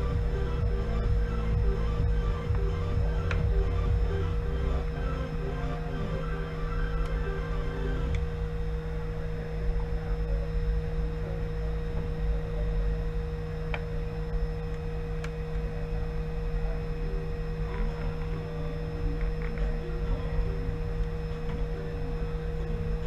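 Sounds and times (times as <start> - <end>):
high whine: 0.0 - 23.0
low rumble: 0.0 - 23.0
steady hum: 0.0 - 23.0.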